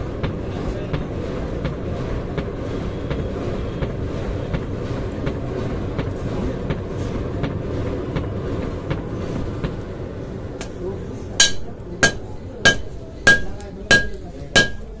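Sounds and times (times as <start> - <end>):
forge blower and fire rumble: 0.0 - 15.0.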